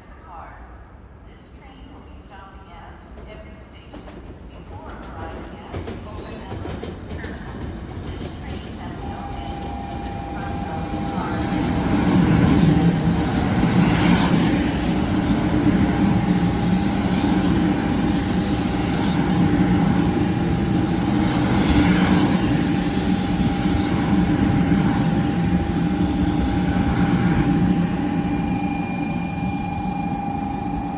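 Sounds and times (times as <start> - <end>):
train wheels rumbling: 3.1 - 30.9.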